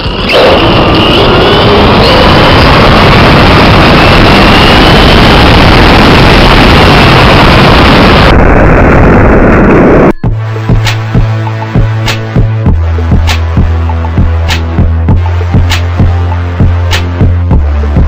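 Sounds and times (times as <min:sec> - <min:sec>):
high motor whine: 0:00.0 - 0:18.0.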